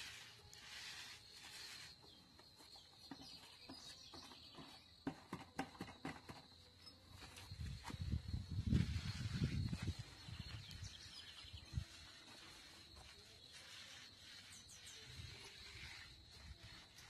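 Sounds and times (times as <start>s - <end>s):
paint roller swishing on wall: 0.0s - 17.0s.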